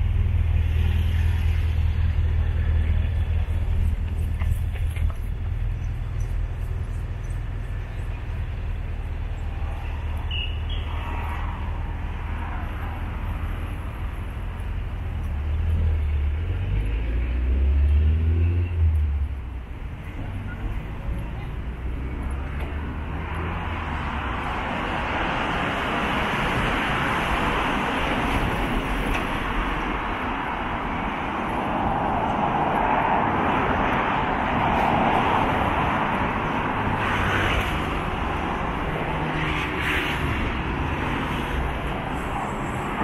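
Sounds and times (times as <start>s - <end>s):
vehicle noise: 0.0s - 43.0s.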